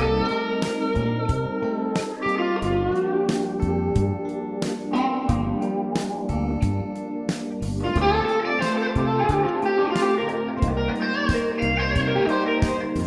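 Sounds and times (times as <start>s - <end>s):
bass notes: 0.0s - 4.3s, 5.0s - 7.0s, 7.6s - 13.0s
blues-rock electric guitar: 0.0s - 13.0s.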